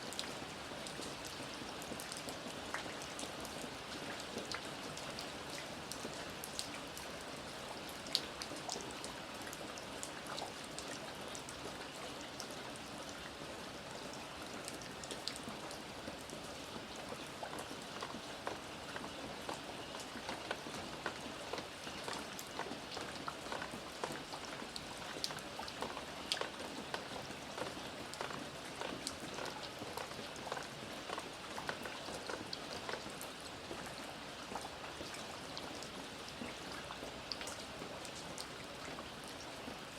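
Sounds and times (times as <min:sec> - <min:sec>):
raindrops ticking on hard surface: 0:00.1 - 0:12.5, 0:14.0 - 0:39.9.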